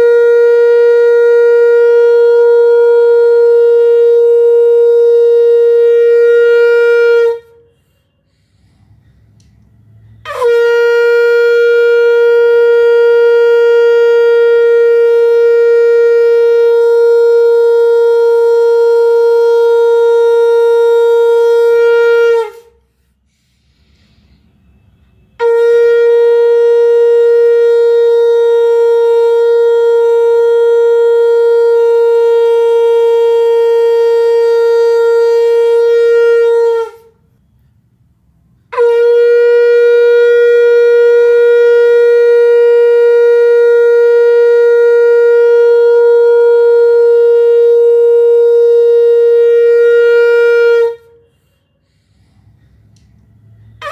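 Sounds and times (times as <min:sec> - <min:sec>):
conch shell blasts: 0:00.0 - 0:08.4, 0:09.6 - 0:23.0, 0:24.2 - 0:37.5, 0:38.5 - 0:53.9.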